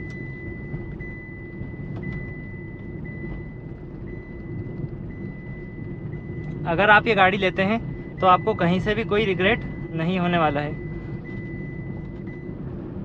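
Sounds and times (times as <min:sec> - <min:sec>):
car engine at low revs: 0:00.0 - 0:13.0
faint pulsing high tone: 0:00.0 - 0:13.0
road rumble: 0:00.0 - 0:13.0.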